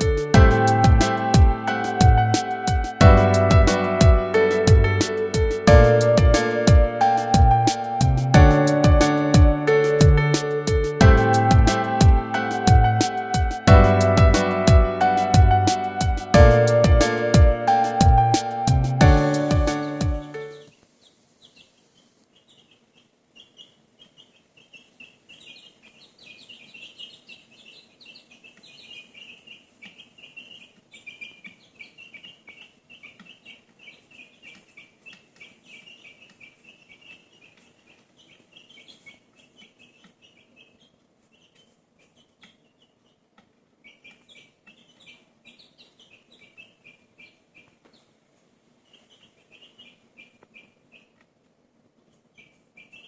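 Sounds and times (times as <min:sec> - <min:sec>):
birds chirping: 0:00.0 - 0:48.2, 0:48.8 - 0:51.3, 0:52.1 - 0:53.0.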